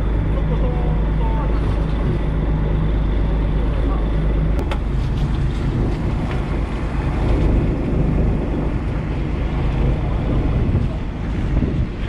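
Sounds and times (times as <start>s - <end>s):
boat engine drone: 0.0s - 12.0s
sea washing along hull: 0.0s - 12.0s
wind buffeting microphone: 0.0s - 12.0s.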